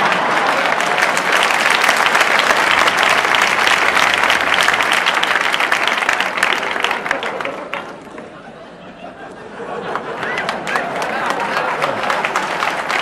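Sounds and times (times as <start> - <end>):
audience applauding: 0.0 - 8.3, 9.6 - 13.0.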